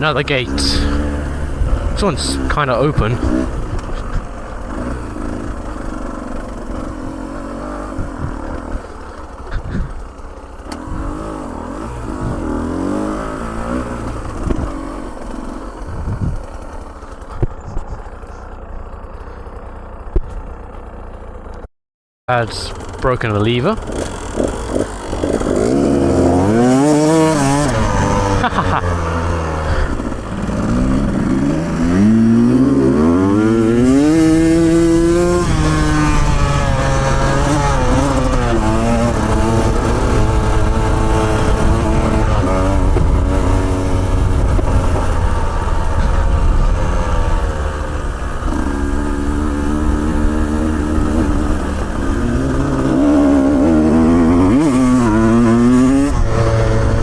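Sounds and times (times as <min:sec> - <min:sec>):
off-road motorcycle engine revving: 0:00.0 - 0:21.7, 0:22.3 - 0:57.0.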